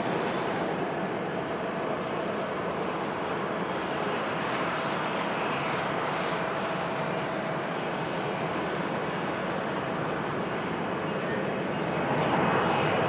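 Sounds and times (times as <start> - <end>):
faint jet engine whine: 0.0 - 13.0
jet engines roaring: 0.0 - 13.0.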